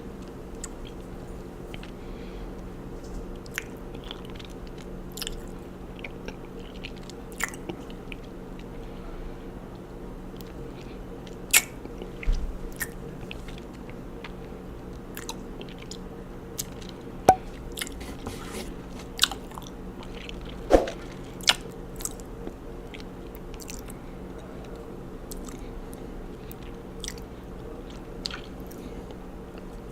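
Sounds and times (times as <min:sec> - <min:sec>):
faint steady hum: 0:00.0 - 0:29.9
chewing honeycomb: 0:03.3 - 0:09.0, 0:09.7 - 0:29.9.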